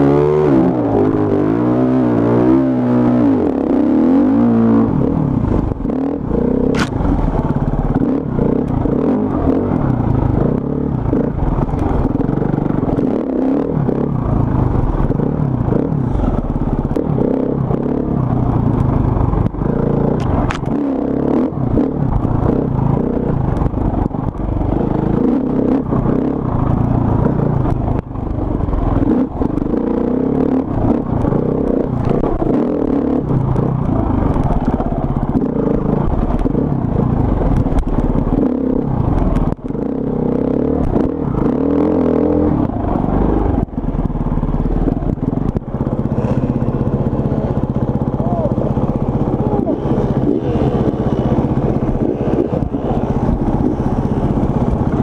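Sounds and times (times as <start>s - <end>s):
motorcycle engine revving: 0.0s - 55.0s
motorcycle rattling over bumps: 0.0s - 55.0s.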